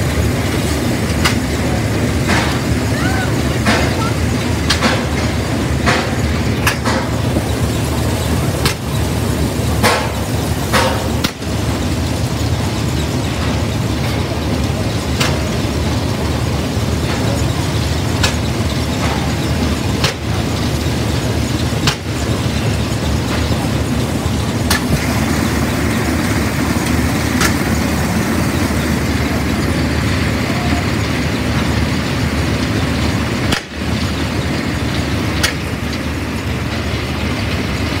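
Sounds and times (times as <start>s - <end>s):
steam threshing machine running: 0.0s - 38.0s.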